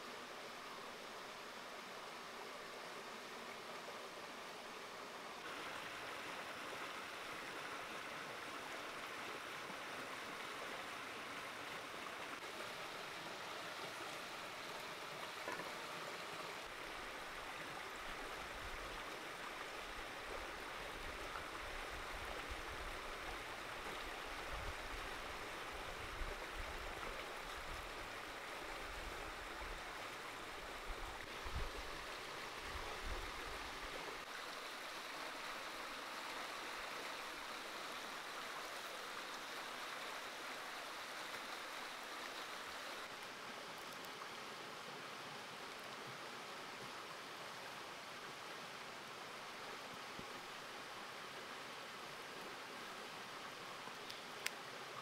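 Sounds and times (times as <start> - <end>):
creek flowing over rocks: 0.0 - 55.0.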